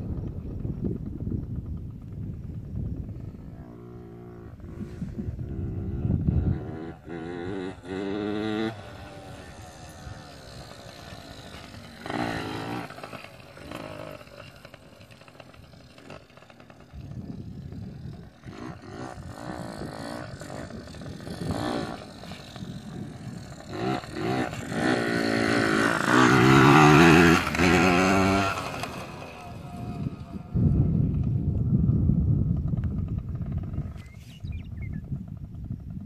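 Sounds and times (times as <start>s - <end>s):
dirt bike engine revving: 1.4s - 36.0s.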